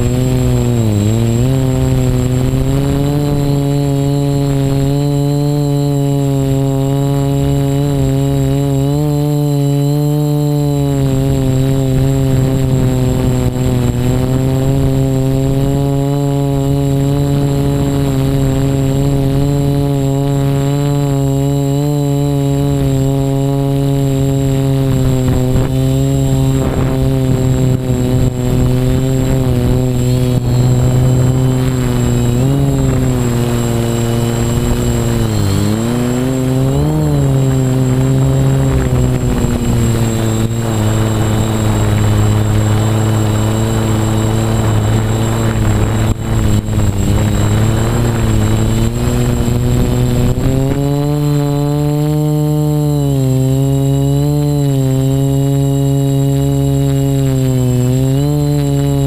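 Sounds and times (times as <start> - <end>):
drone motors buzzing: 0.0 - 59.0.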